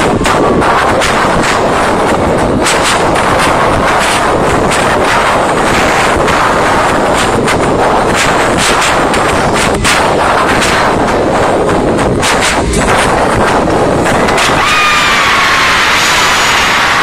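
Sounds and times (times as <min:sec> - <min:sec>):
crowd screaming distorted: 0:00.0 - 0:17.0.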